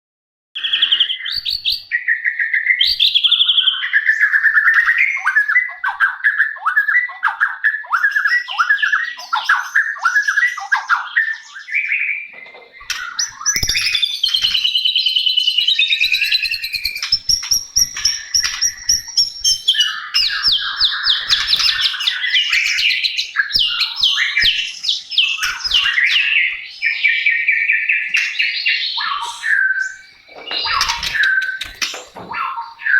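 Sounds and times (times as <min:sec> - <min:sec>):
bird singing: 0:00.6 - 0:32.9.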